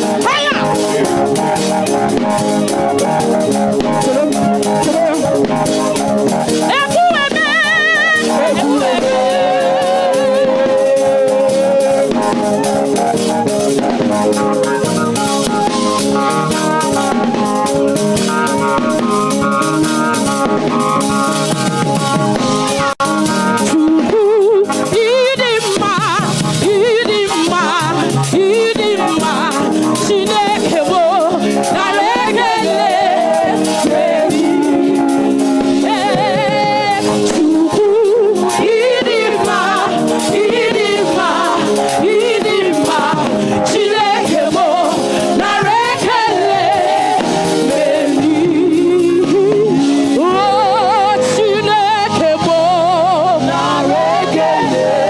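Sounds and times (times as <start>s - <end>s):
person singing with vibrato: 0.0s - 13.7s, 23.6s - 55.0s
band chords: 0.0s - 55.0s.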